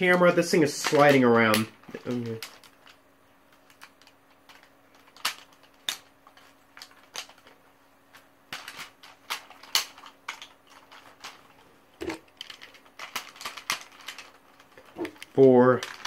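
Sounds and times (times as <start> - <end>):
plastic toy parts clicking: 0.8 - 7.5, 8.5 - 11.4, 12.3 - 16.0.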